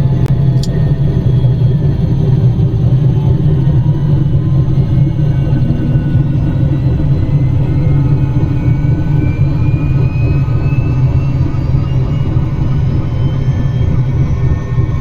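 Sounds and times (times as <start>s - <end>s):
helicopter engine and rotor rumble: 0.0s - 15.0s.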